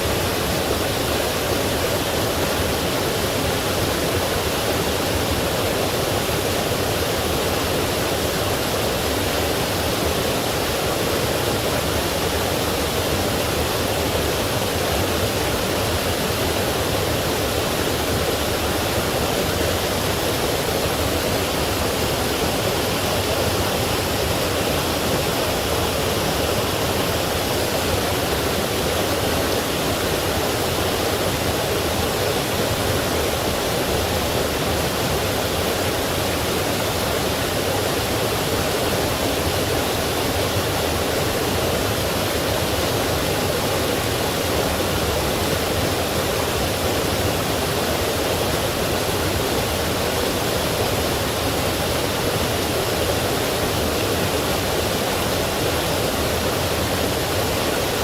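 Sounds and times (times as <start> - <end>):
stream rushing over waterfalls: 0.0 - 58.0.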